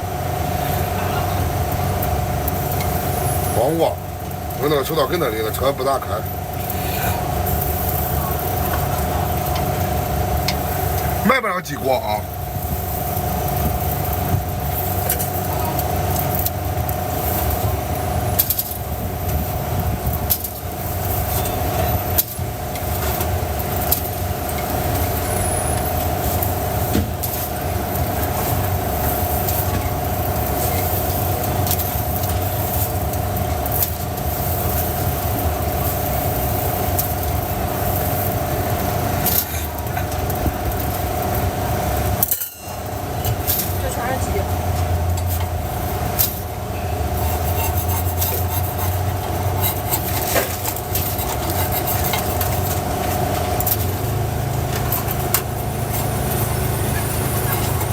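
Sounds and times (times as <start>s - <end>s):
machine rumble and whine: 0.0s - 57.9s.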